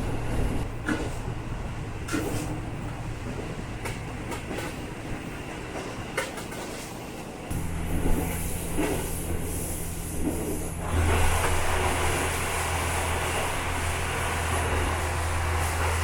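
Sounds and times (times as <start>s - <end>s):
diesel railcar engine humming: 0.0s - 6.6s, 7.2s - 16.0s.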